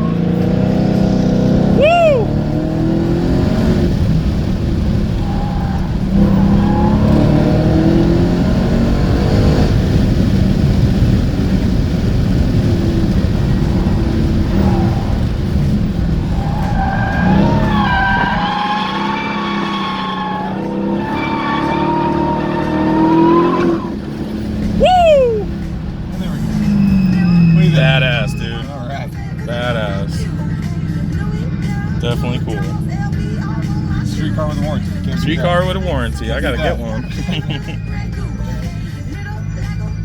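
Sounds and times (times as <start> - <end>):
car engine running hard: 0.0 - 40.0
tires squealing: 0.0 - 40.0.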